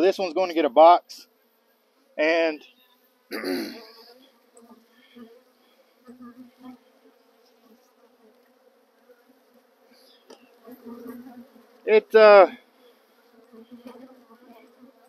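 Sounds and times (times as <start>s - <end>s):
bee buzzing close by: 0.0s - 15.0s
honeybees humming: 0.0s - 15.0s.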